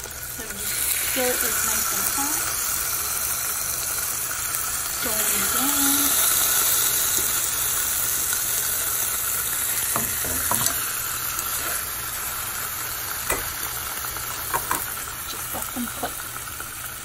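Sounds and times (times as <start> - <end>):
chicken sizzling in a skillet: 0.0 - 17.0.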